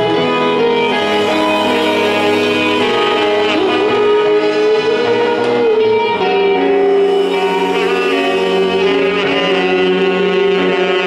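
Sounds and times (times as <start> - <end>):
electric guitars: 0.0 - 11.0
saxophone long notes: 0.0 - 11.0.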